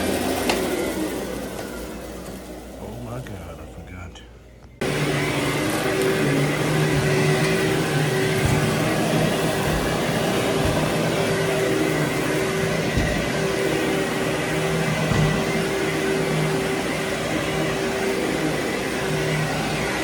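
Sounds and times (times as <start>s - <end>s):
vacuum cleaner whine: 0.0s - 3.8s, 4.7s - 20.0s.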